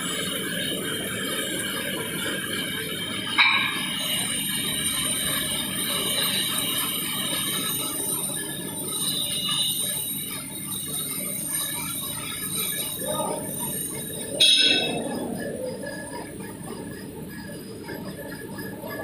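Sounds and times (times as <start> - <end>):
lathe cutting metal: 0.0 - 19.0
metallic ringing tones: 3.1 - 19.0.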